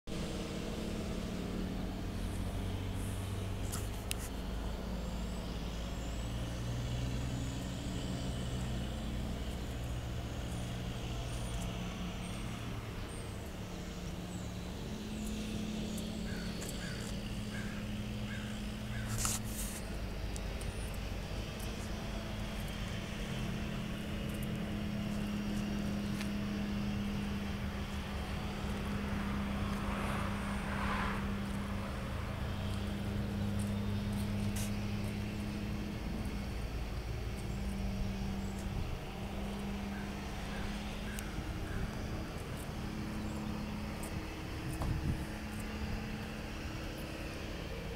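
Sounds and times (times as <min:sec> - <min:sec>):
engine idling: 0:00.1 - 0:47.9.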